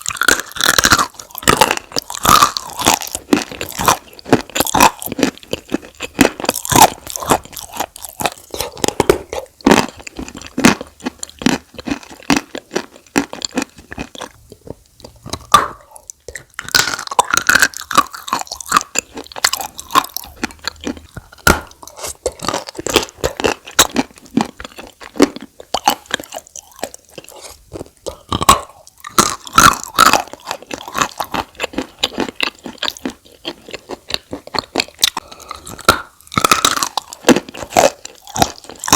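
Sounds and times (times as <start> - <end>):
chewing and crunching chalk: 0.0 - 38.9.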